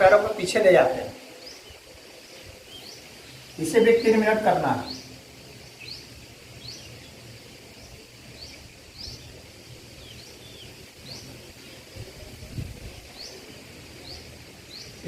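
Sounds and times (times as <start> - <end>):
bird chirping: 0.0 - 15.0
low background noise: 0.0 - 15.0.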